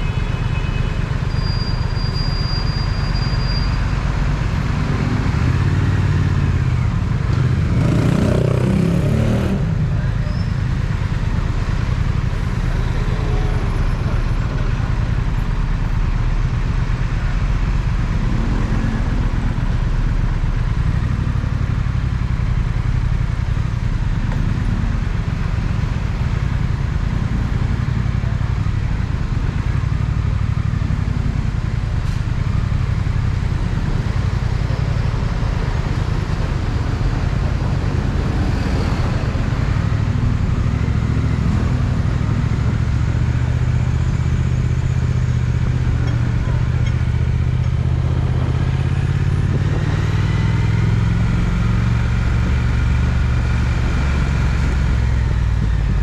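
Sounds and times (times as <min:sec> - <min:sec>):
motorcycle engine rumbling: 0:00.0 - 0:56.0
road and wind noise: 0:00.0 - 0:56.0.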